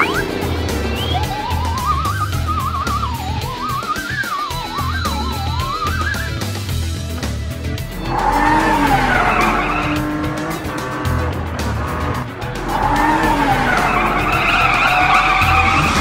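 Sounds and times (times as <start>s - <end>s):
background music: 0.0s - 16.0s
cartoon race car engine revving: 0.0s - 16.0s
tyres skidding: 0.0s - 16.0s.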